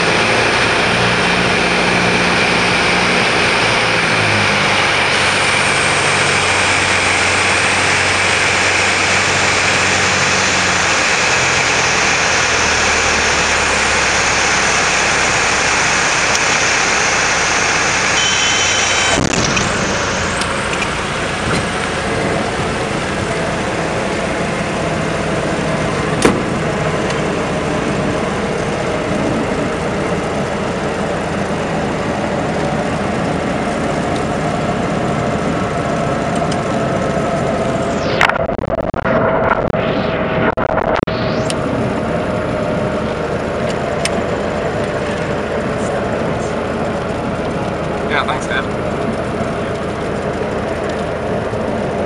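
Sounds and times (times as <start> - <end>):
light aircraft engine and propeller: 0.0 - 38.4, 41.1 - 52.0.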